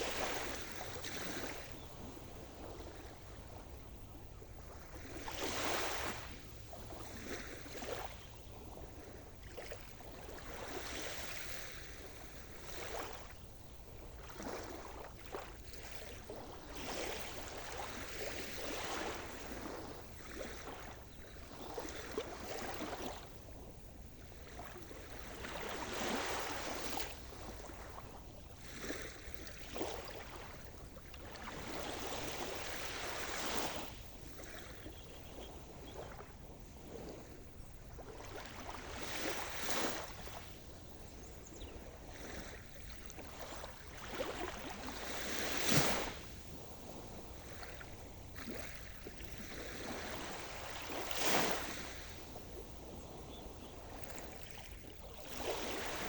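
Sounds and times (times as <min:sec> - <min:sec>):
waves breaking: 0:00.0 - 0:56.0.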